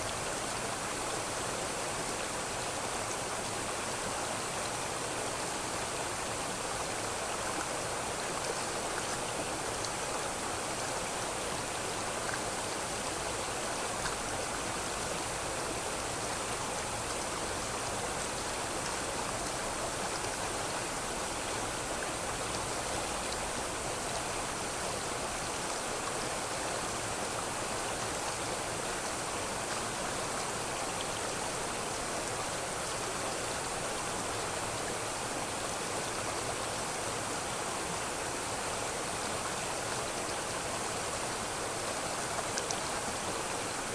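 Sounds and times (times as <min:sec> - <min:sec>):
river water flowing over rocks: 0:00.0 - 0:43.9.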